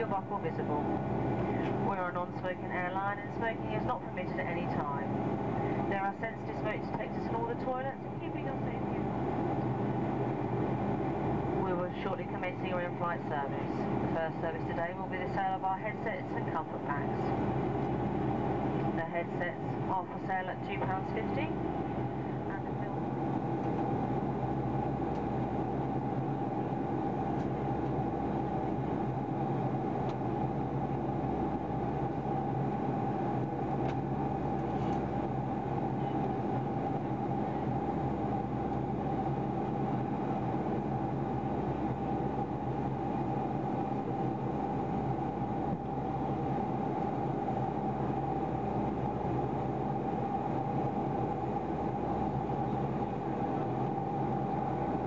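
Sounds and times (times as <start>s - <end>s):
jet engine and airflow rush: 0.0s - 55.0s
steady hum: 0.0s - 55.0s
whine: 0.0s - 55.0s.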